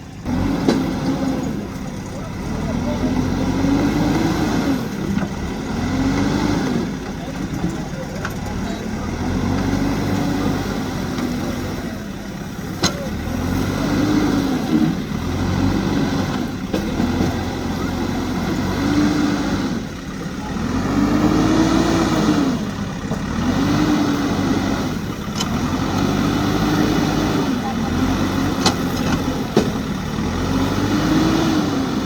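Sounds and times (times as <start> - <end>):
diesel engine under hydraulic load: 0.0 - 32.0.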